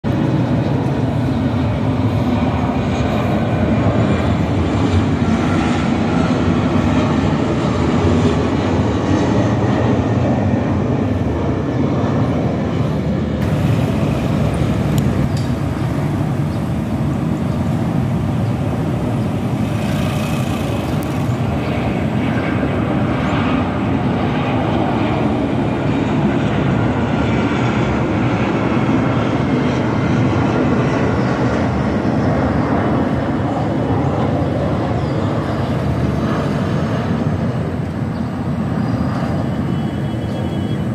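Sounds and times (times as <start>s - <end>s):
jet engines droning: 0.0s - 40.9s.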